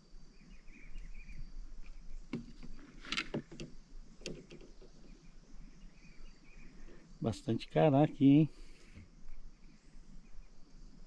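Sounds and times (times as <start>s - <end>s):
insects chirping faintly: 0.0s - 11.0s.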